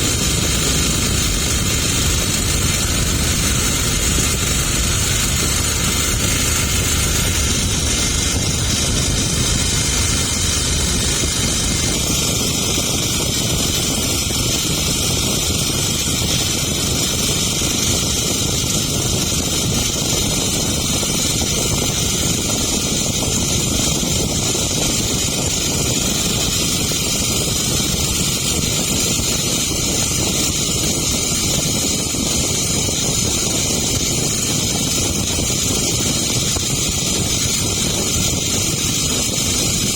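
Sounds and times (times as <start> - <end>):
boat engine running: 0.0 - 39.9
wind on microphone: 0.0 - 39.9.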